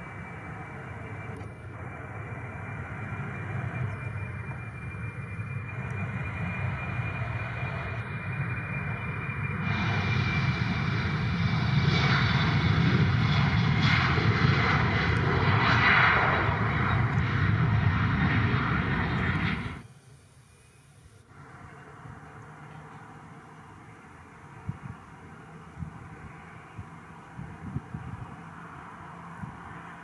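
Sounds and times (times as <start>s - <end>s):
jet engines roaring with whine: 0.0s - 30.0s.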